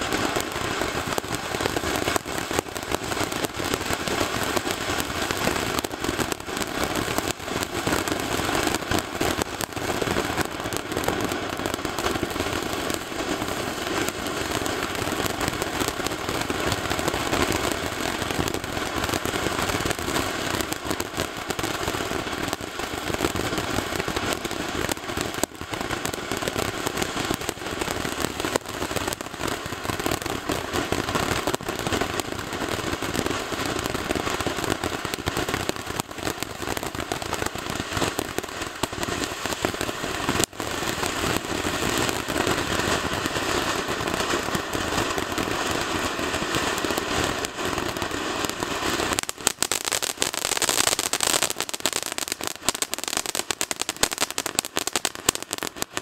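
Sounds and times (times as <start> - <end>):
firework crackles and pops: 0.0 - 56.0
firework fountain hissing sparks: 0.0 - 56.0.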